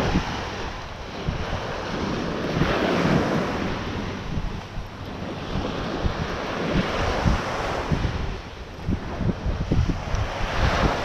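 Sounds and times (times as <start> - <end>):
ocean surf washing onto beach: 0.0 - 11.0
wind buffeting microphone: 0.0 - 11.0.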